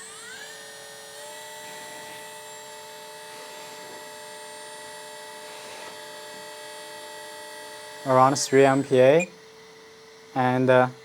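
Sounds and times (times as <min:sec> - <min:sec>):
hydraulic pump motor whine: 0:00.0 - 0:11.0.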